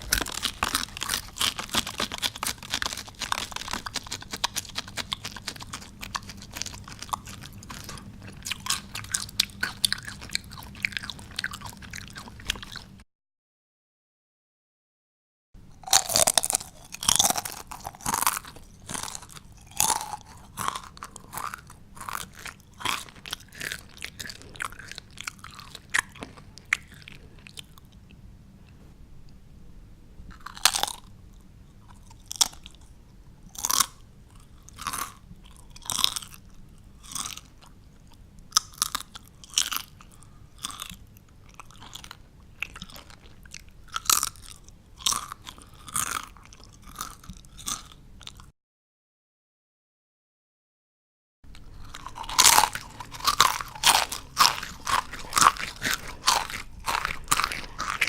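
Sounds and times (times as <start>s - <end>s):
chips being chewed: 0.0s - 13.0s, 15.7s - 28.1s, 30.3s - 48.5s, 51.5s - 58.0s.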